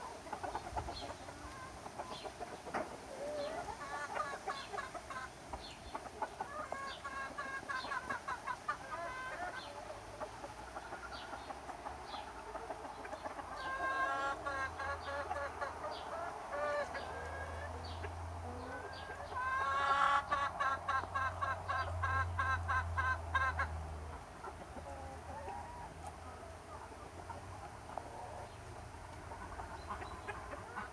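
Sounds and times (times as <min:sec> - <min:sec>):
chickens clucking: 0:00.0 - 0:30.9.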